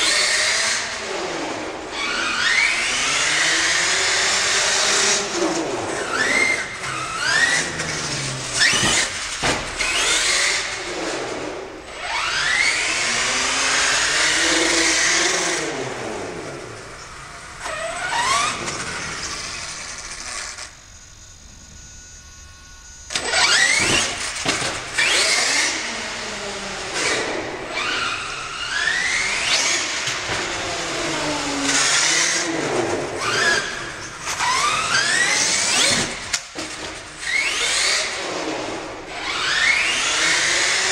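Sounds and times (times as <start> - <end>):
model truck engine revving: 0.0 - 20.8, 23.1 - 40.9.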